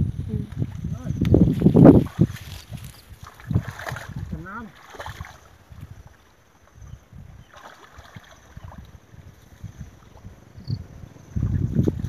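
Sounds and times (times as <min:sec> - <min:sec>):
wind on microphone: 0:00.0 - 0:12.0
shallow water sloshing: 0:00.4 - 0:10.6.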